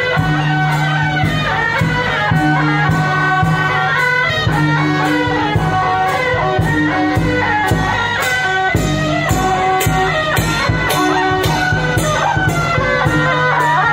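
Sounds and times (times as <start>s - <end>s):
procession music melody: 0.0s - 13.9s
steady drum beat: 0.0s - 13.9s.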